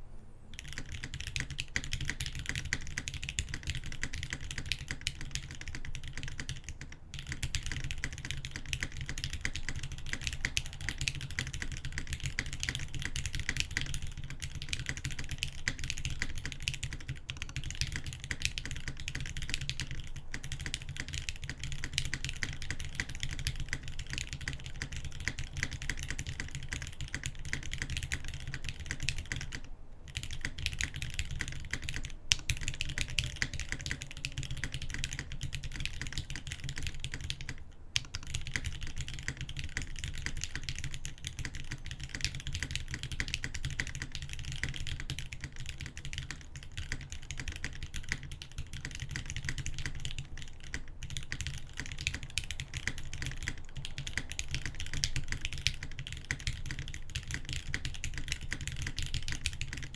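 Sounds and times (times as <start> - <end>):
mechanical keyboard typing: 0.5 - 59.9.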